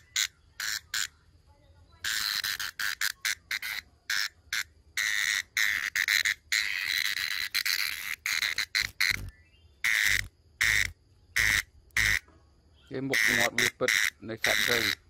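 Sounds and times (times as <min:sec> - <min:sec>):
cicada buzzing: 0:00.0 - 0:01.2, 0:02.0 - 0:12.3, 0:12.9 - 0:15.0.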